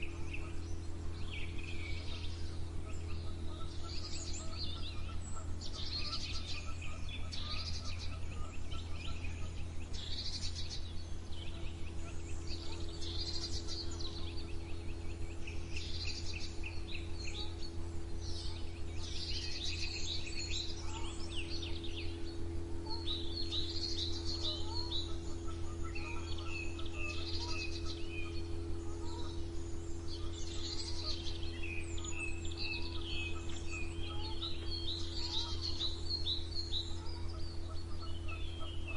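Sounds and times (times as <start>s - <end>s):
songbirds trilling: 0.0s - 38.9s
steady low hum: 0.0s - 38.9s.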